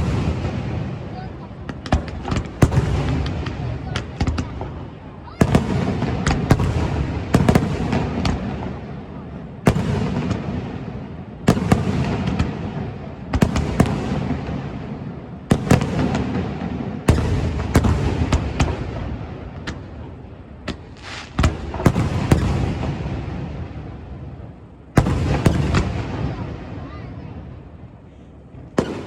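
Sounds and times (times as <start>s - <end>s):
fireworks bursting with echo: 0.0s - 29.0s.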